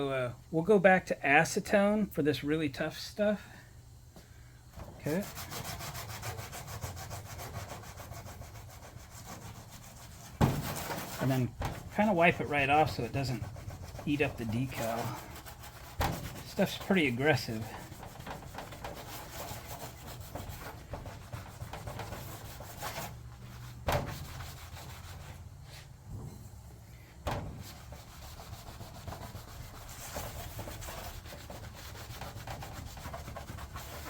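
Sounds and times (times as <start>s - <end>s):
pad scrubbing metal panel: 5.0s - 25.8s, 27.2s - 34.0s.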